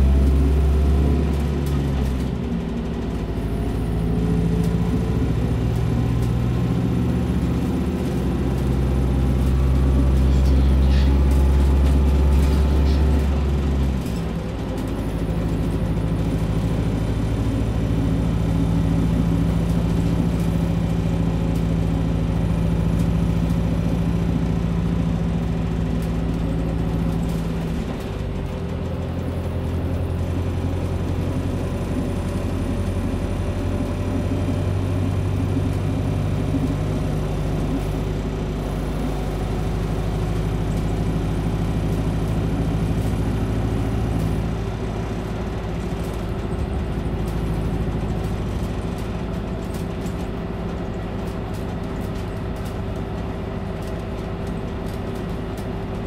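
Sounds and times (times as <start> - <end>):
bus drivetrain drone: 0.0 - 56.0
road noise: 0.0 - 56.0.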